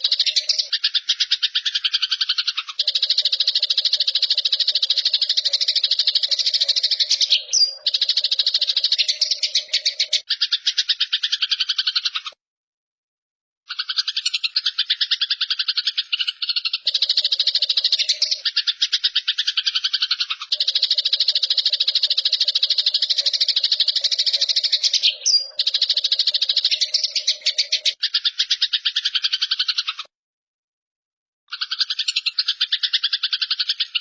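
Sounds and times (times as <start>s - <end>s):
sparrow chattering call: 0.0s - 12.4s, 13.7s - 30.1s, 31.5s - 34.0s.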